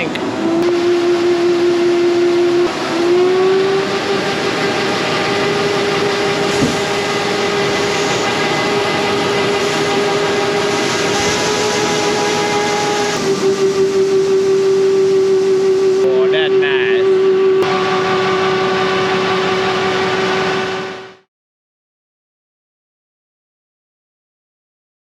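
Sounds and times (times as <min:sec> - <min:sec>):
tractor engine with high whine: 0:00.0 - 0:21.3.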